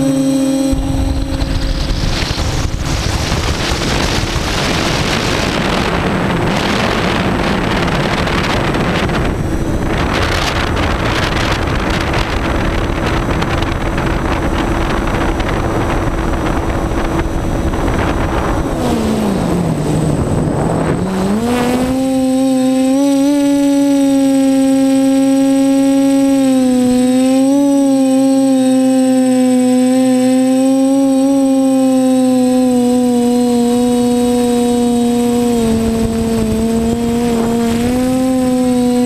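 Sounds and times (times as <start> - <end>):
drone motors whining: 0.0 - 11.5, 15.9 - 39.0
wind rush: 0.0 - 39.0.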